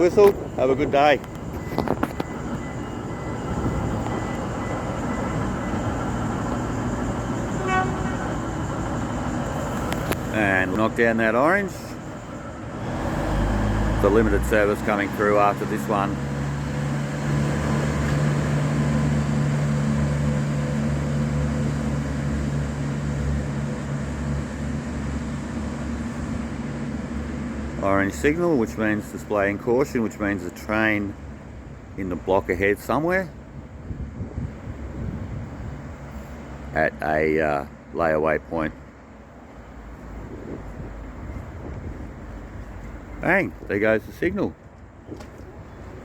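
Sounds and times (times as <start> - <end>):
diesel train engine and rail rumble: 0.0 - 46.0.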